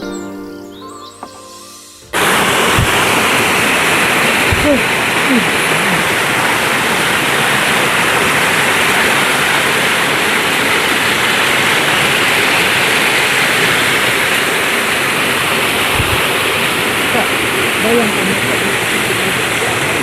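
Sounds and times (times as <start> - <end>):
flowing water rushing: 2.0 - 20.0.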